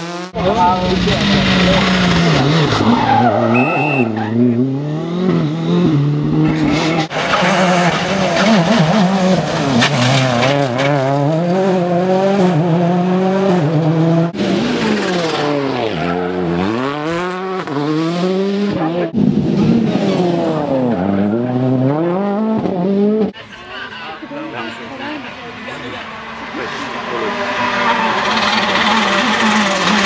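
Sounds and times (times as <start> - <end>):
rally car engines revving hard: 0.0 - 23.4, 24.3 - 30.0.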